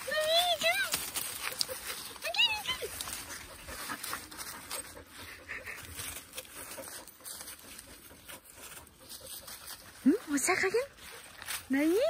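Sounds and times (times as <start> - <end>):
footsteps on dry leaves: 0.0 - 12.0.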